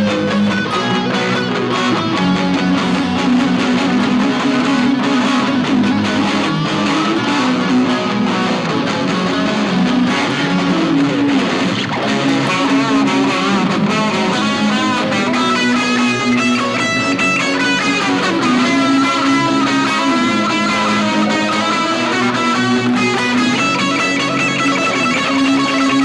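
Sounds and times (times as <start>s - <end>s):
lead guitar with bends: 0.0s - 26.0s
strummed guitar chords: 0.0s - 26.0s.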